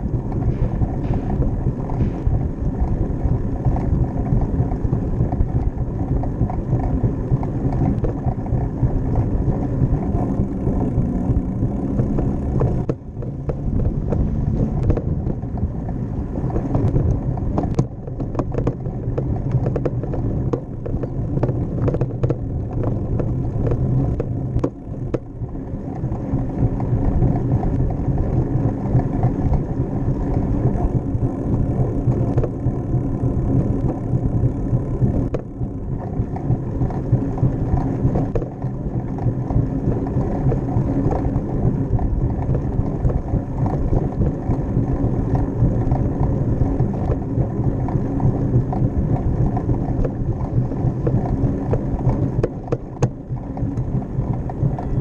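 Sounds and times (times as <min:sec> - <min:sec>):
bike rattling over brick pavers: 0:00.0 - 0:55.0
tyre and road rumble: 0:00.0 - 0:55.0
wind buffeting microphone: 0:00.0 - 0:55.0.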